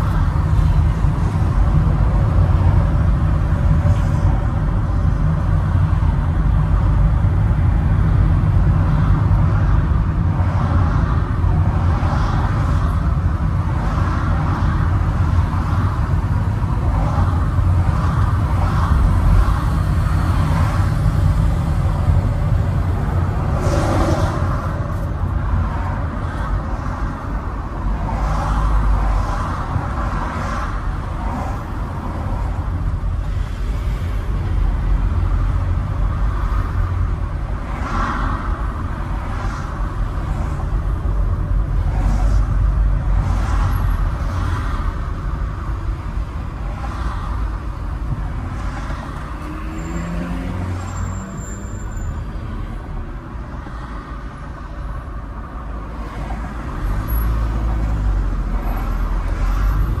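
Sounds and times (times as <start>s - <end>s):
road noise: 0.0s - 60.0s
vehicle engine rumble: 0.0s - 60.0s.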